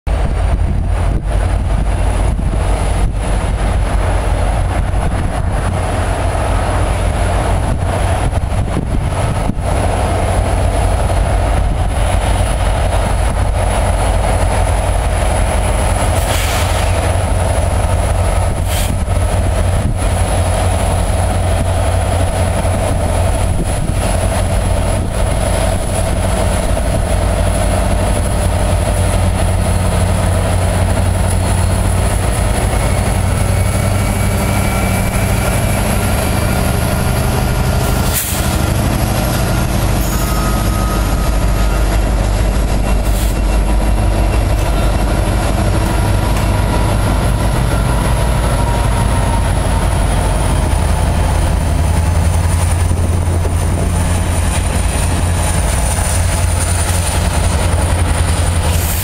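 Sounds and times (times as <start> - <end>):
diesel locomotive passing: 0.1 - 59.0.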